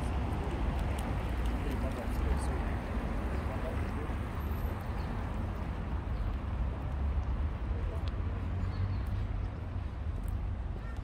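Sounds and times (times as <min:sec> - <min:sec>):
faint voices: 0:00.0 - 0:09.6
traffic rumble: 0:00.0 - 0:11.0.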